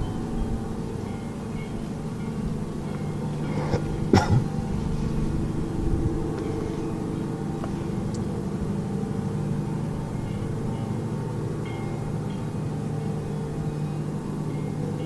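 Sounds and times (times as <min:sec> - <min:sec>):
low droning hum: 0:00.0 - 0:15.0.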